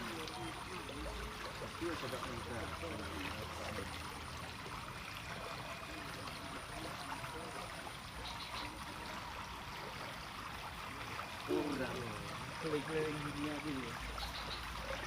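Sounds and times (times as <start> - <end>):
water rushing in a ditch: 0.0 - 15.0.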